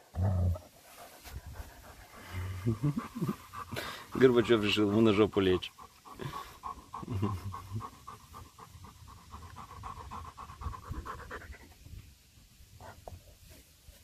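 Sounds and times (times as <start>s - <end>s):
dog panting: 0.5s - 12.0s.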